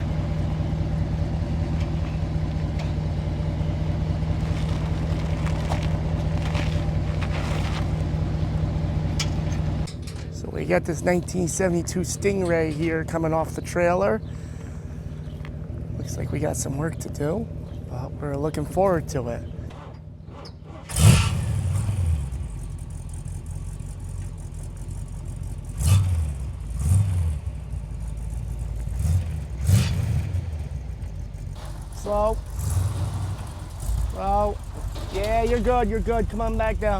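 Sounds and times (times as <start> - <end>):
vehicle engine idling: 0.0 - 36.9.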